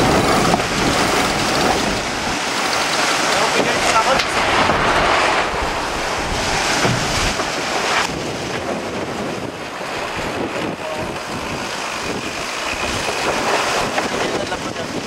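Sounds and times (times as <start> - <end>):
water rushing past hulls: 0.0 - 15.0
wind buffeting microphone: 0.0 - 15.0.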